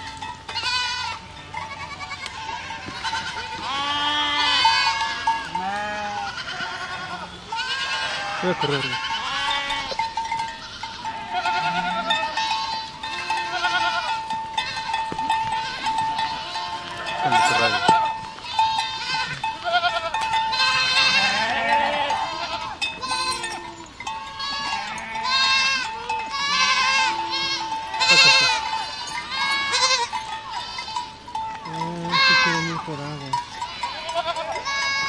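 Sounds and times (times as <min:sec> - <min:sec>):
goats bleating: 0:00.0 - 0:35.0.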